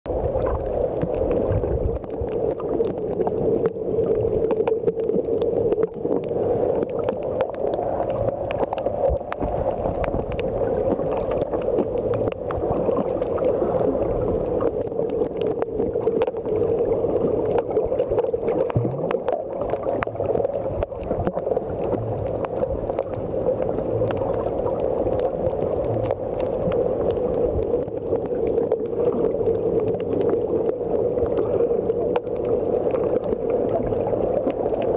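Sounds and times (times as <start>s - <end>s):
faint crackling clicks: 0.1s - 34.9s
muffled underwater rush: 0.1s - 34.9s.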